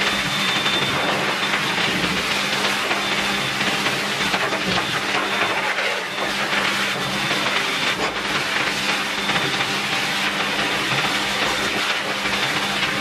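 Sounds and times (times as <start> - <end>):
pet dryer air rushing: 0.0 - 13.0.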